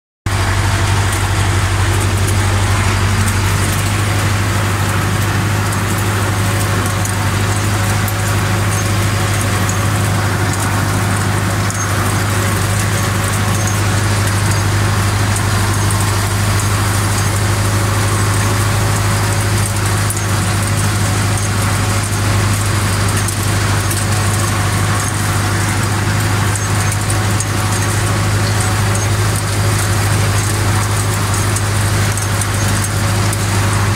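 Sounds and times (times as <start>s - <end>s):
tractor diesel engine running: 0.2s - 33.9s
rake ticking and rattling: 0.3s - 33.9s.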